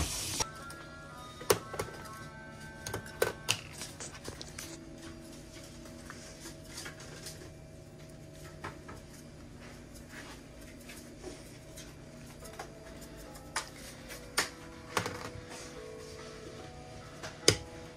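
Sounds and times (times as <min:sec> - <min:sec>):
low room hum: 0:00.2 - 0:17.9.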